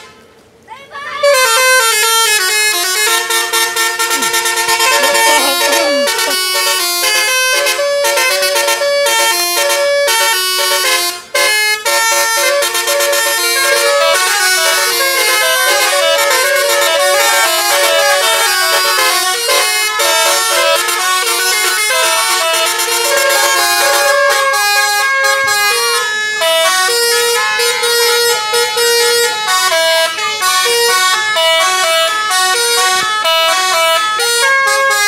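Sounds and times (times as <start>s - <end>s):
musical air horns playing: 1.2s - 35.0s.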